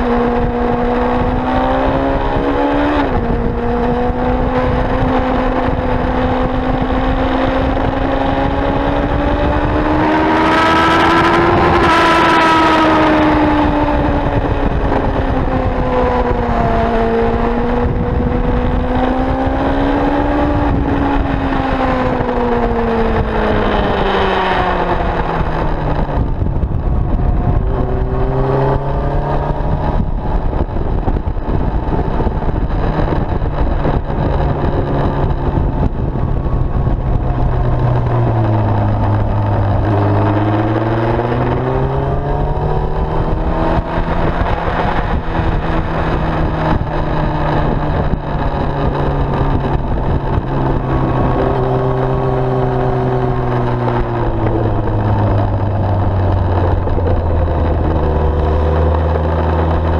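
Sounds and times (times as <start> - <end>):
heavy wind rush: 0.0 - 59.9
motorcycle engine: 0.0 - 59.9.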